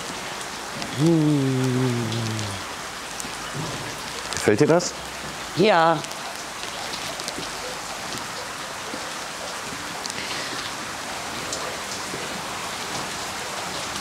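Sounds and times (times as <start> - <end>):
brine trickling and dripping: 0.0 - 14.0.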